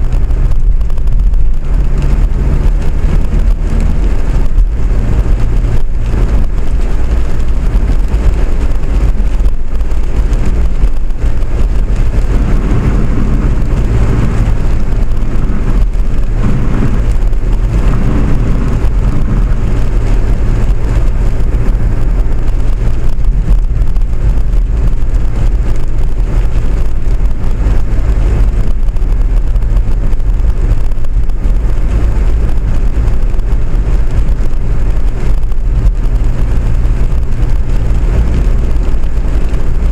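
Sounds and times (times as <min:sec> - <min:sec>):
vehicle rumbling: 0:00.0 - 0:39.9.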